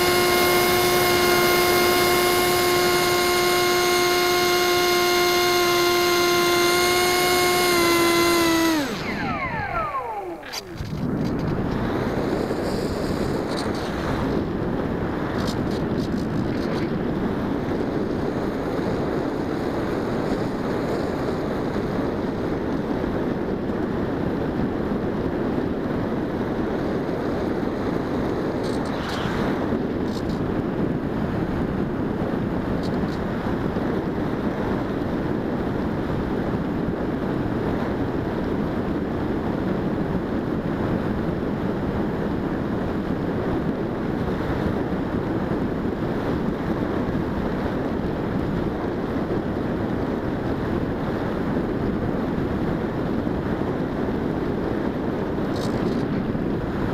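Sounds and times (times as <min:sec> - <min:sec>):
airflow buffeting microphone: 0:00.0 - 0:25.0, 0:25.6 - 0:56.9.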